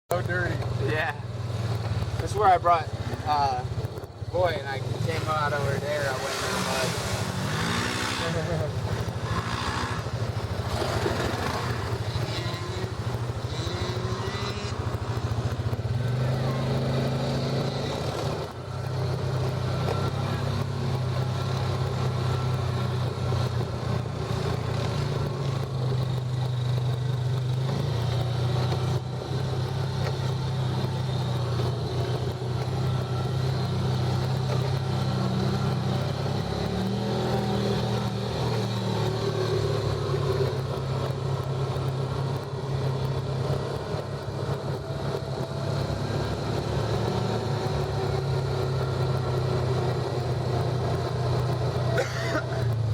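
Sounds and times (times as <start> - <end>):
vehicle engine running: 0.1 - 52.9.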